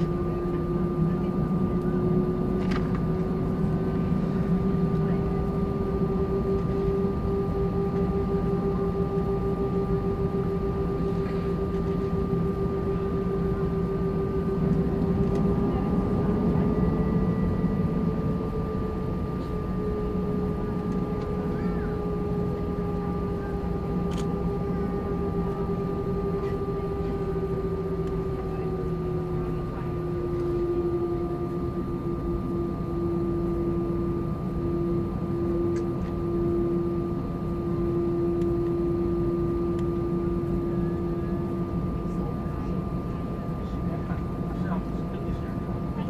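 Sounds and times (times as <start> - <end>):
jet engines droning and whining: 0.0 - 46.0.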